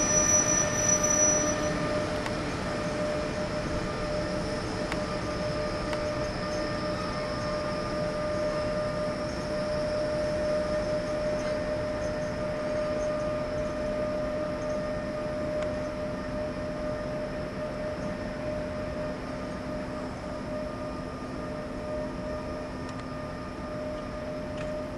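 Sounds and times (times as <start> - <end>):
electric locomotive humming whine: 0.0 - 24.9.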